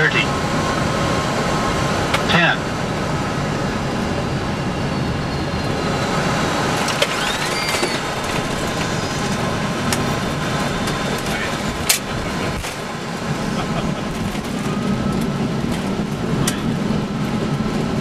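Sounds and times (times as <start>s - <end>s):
aircraft engines and airflow rushing: 0.0s - 18.0s
faint rising whine: 0.2s - 18.0s.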